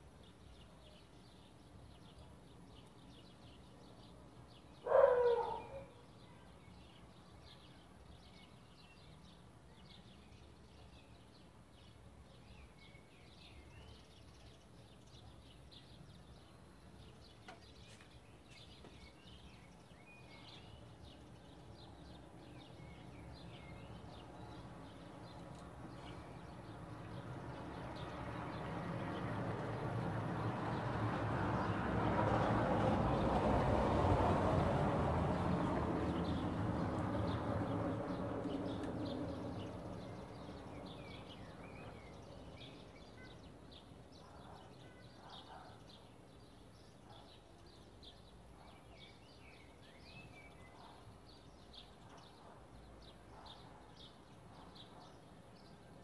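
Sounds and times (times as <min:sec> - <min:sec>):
small birds chirping: 0:00.0 - 0:33.3, 0:35.3 - 0:56.0.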